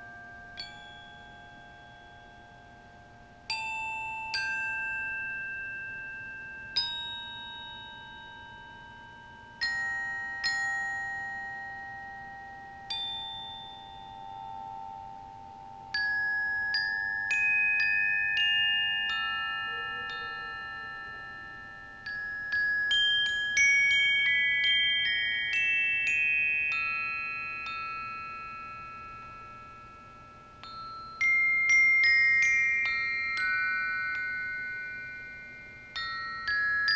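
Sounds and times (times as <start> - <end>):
glockenspiel notes: 0.0 - 36.9.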